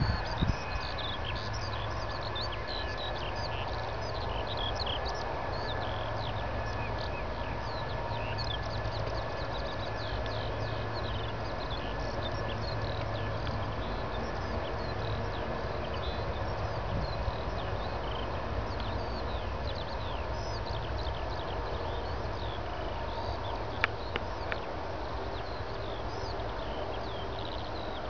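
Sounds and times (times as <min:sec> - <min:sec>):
distant jet engines rumbling: 0:00.0 - 0:28.0.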